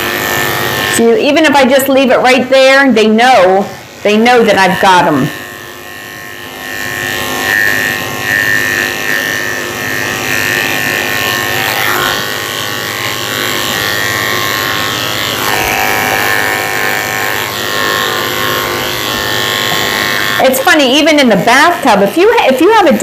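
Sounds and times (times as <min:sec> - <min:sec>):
electric clippers running: 0:00.0 - 0:23.0.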